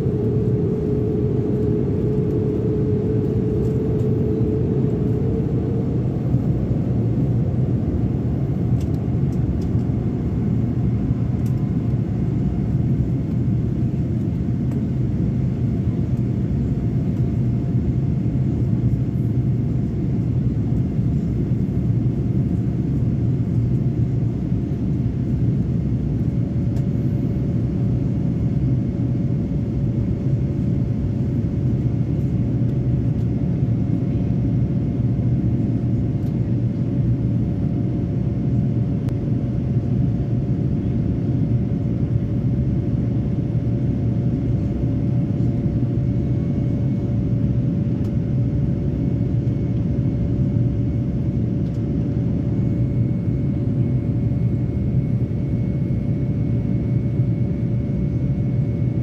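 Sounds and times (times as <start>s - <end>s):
faint whining tones: 0.0s - 59.0s
jet engine roar: 0.0s - 59.0s.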